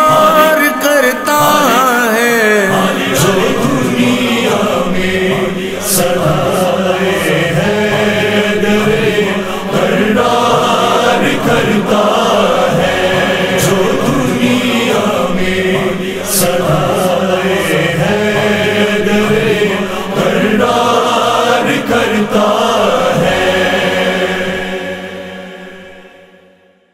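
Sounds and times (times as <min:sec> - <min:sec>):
chorus chanting in harmony: 0:00.0 - 0:26.9.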